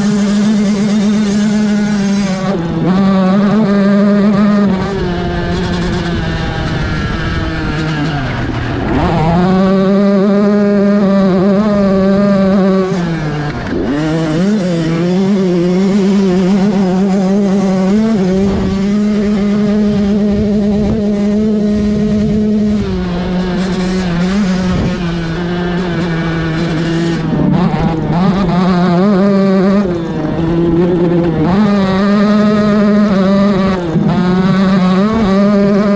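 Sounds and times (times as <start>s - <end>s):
two-stroke dirt bike engine revving: 0.0s - 35.9s.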